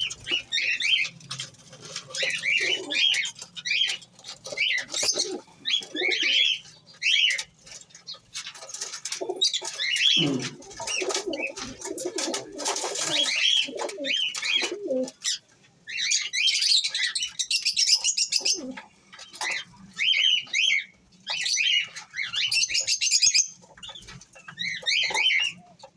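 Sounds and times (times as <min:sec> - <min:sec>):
pigeons cooing: 0:00.0 - 0:17.2, 0:17.8 - 0:25.9
birds chirping: 0:00.0 - 0:25.9.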